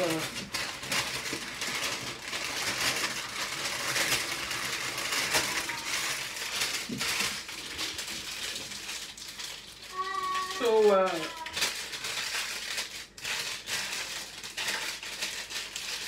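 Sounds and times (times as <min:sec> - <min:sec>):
baking paper crinkling: 0:00.0 - 0:16.0.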